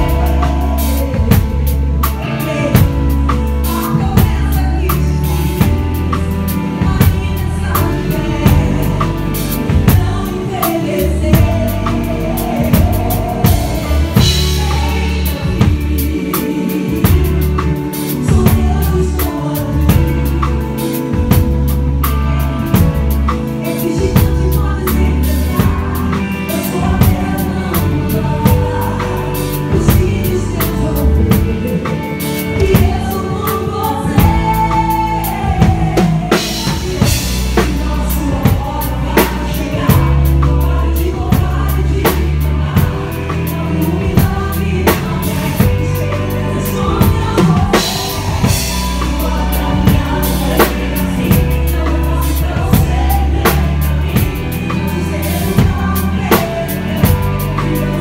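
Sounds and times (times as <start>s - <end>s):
band playing: 0.0s - 58.0s
drum kit playing a beat: 0.0s - 58.0s.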